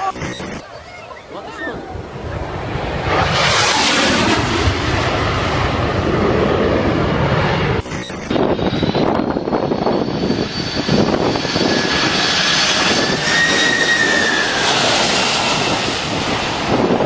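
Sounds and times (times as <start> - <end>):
jet aircraft passing overhead: 0.8 - 7.8, 8.4 - 17.0.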